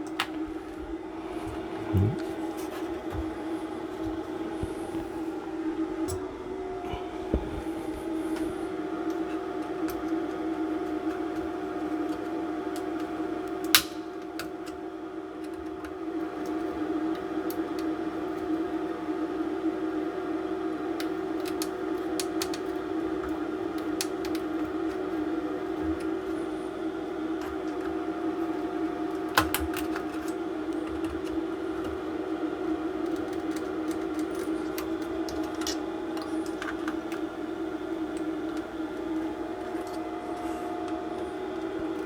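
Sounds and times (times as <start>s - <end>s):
desoldering equipment motor hum: 0.0s - 42.0s.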